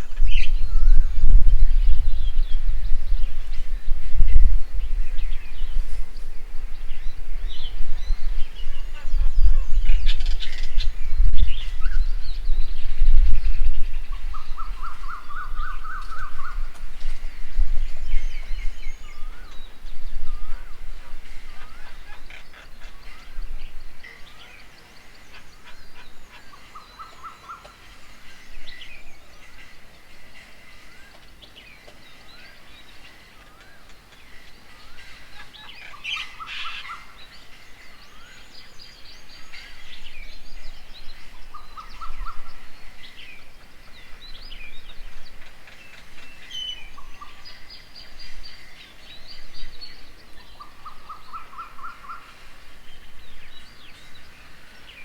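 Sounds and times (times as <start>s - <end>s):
wild birds chirping: 0.0s - 55.0s.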